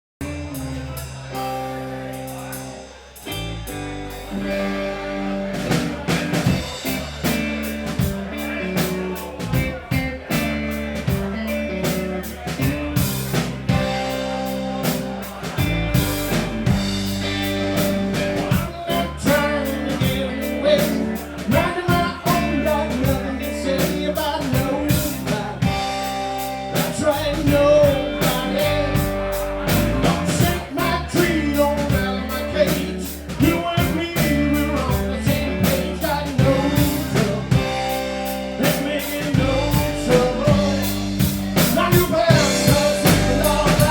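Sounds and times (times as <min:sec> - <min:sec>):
drum kit steady beat: 0:00.2 - 0:43.9
guitar: 0:00.2 - 0:43.9
live blues band playing: 0:00.2 - 0:43.9.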